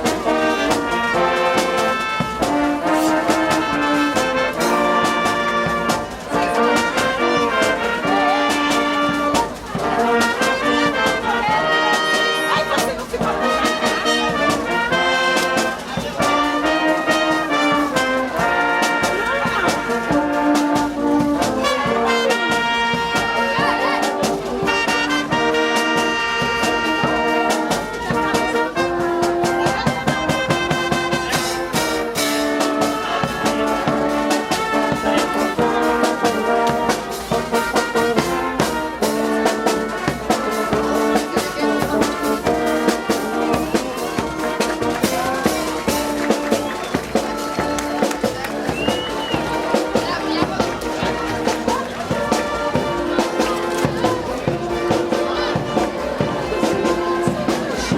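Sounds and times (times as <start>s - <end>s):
marching percussion: 0.0s - 57.9s
trumpets and trombones: 0.0s - 57.9s.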